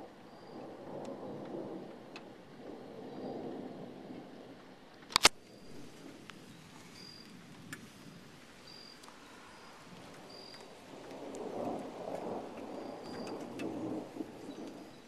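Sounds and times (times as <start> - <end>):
rain hissing: 0.0 - 15.0
thunder rumbling: 0.0 - 15.0.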